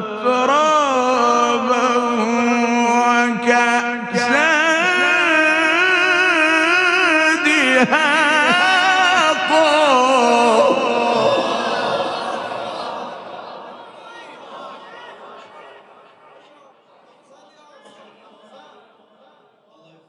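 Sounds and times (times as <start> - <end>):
man reciting in melodic chant: 0.0 - 13.6, 16.4 - 20.0.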